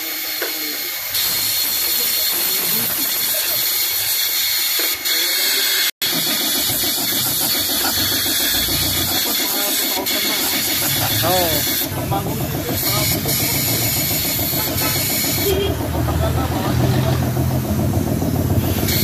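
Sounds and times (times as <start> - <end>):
small engine running: 0.4 - 19.0.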